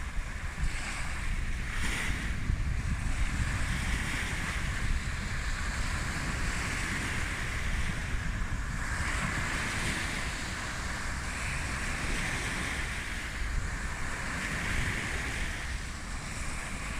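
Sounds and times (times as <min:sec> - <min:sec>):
sea waves washing onto shore: 0:00.0 - 0:16.9
wind buffeting microphone: 0:00.0 - 0:16.9.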